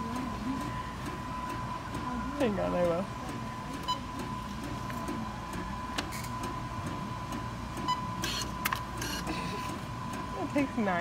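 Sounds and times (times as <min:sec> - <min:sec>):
photo printer running: 0:00.0 - 0:11.0.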